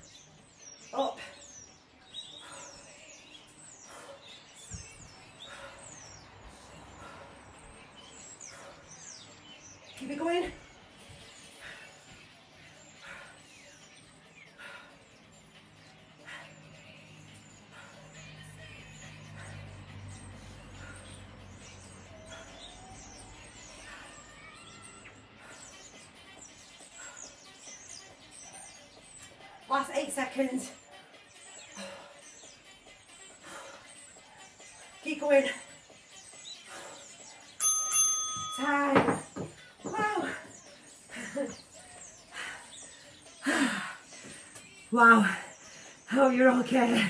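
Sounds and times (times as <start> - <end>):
small bird chirping: 0.0 - 46.7.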